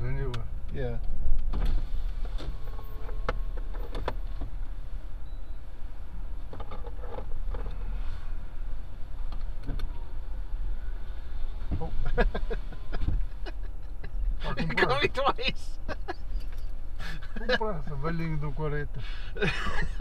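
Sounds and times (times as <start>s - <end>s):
engine and tyre rumble: 0.0s - 20.0s.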